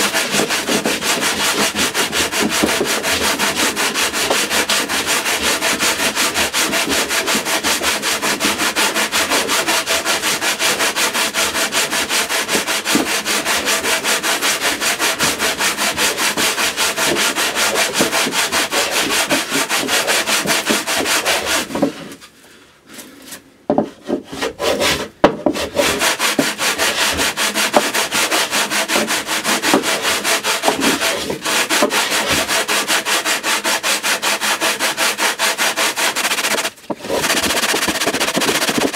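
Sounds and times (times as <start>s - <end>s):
sanding block on wood: 0.0s - 22.1s, 23.7s - 38.9s.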